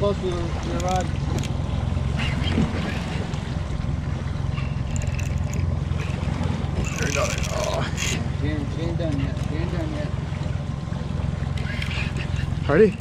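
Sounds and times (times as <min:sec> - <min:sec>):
outboard motor droning: 0:00.0 - 0:13.0
water noise: 0:00.0 - 0:13.0
wind: 0:00.0 - 0:13.0.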